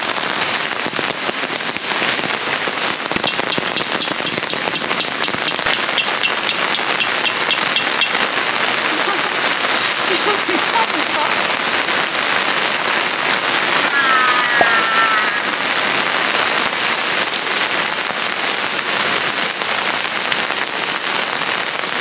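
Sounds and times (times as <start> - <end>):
heavy rain splashing on puddles: 0.0 - 22.0.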